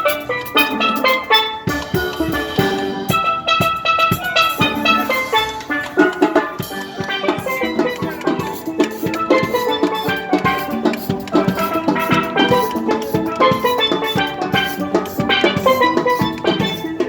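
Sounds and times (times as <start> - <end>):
steady drum beat: 0.0 - 17.0
steel pans playing melody: 0.0 - 17.0.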